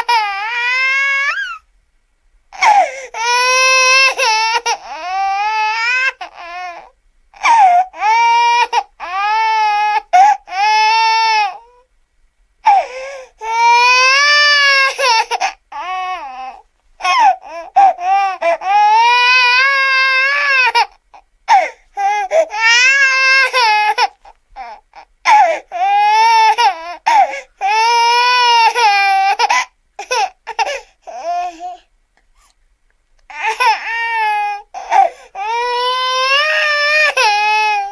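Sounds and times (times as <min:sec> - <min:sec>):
baby crying: 0:00.0 - 0:01.6, 0:02.6 - 0:11.8, 0:12.6 - 0:31.9, 0:33.3 - 0:37.9.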